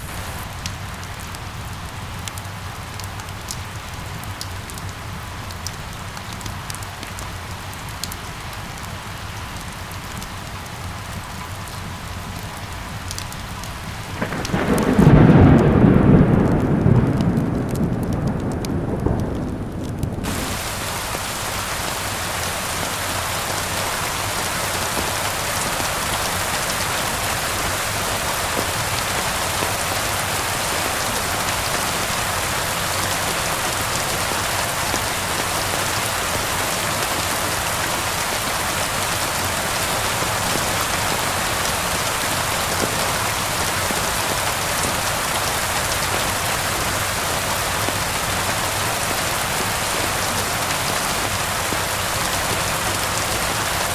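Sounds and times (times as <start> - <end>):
raindrops ticking: 0.0 - 8.9, 9.5 - 53.9
steady rain hiss: 0.0 - 53.9.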